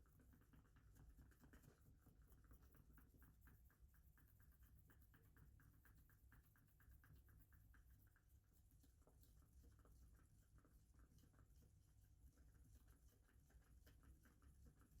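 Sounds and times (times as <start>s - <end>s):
faint rapid scratching: 0.0s - 15.0s.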